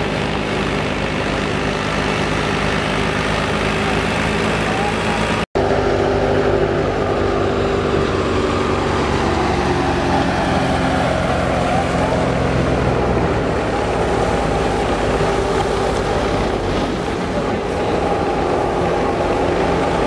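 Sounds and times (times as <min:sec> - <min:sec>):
thresher machine drone: 0:00.0 - 0:20.0.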